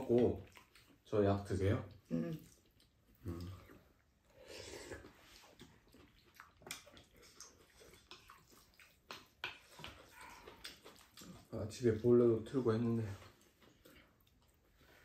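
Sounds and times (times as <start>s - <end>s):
soft eating sounds: 0.0s - 15.0s.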